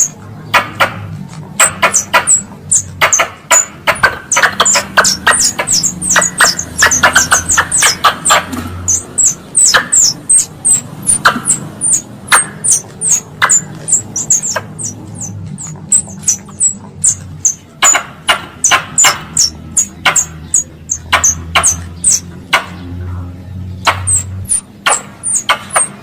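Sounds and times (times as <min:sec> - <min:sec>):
squirrel lure call chirps: 0:01.6 - 0:22.3, 0:23.8 - 0:26.0.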